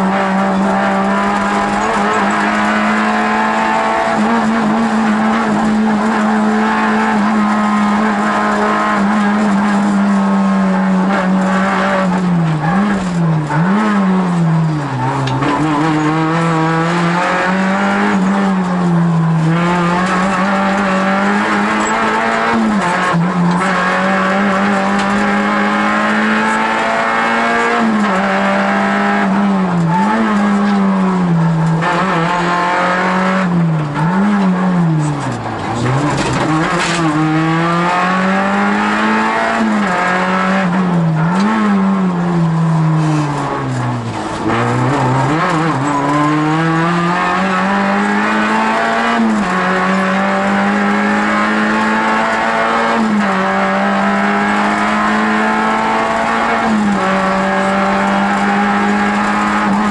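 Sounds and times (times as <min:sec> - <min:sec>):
rally car engine at high revs: 0:00.0 - 0:59.9.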